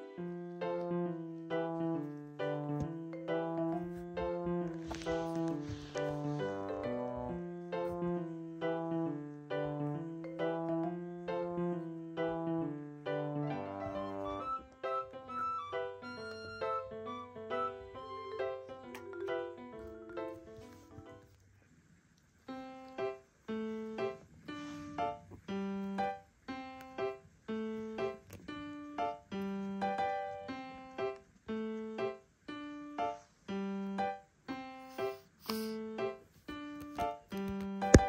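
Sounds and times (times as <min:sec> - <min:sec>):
bouncy keyboard music: 0:00.0 - 0:21.3, 0:22.5 - 0:38.0.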